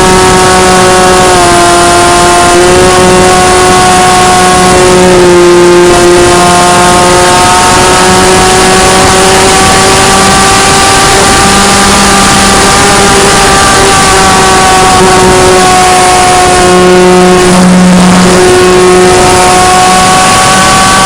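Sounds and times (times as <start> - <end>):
model plane motor whine: 0.0 - 21.0.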